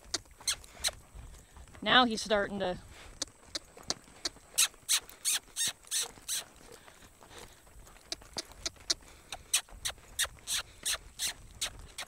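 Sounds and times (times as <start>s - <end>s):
horse hooves loping on soft dirt: 0.0s - 12.0s.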